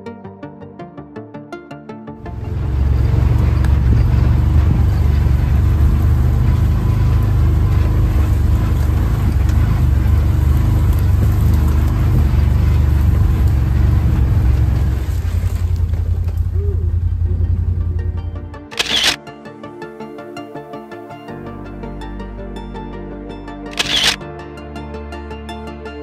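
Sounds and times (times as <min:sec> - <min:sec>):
utility vehicle engine drone: 0:02.1 - 0:26.0.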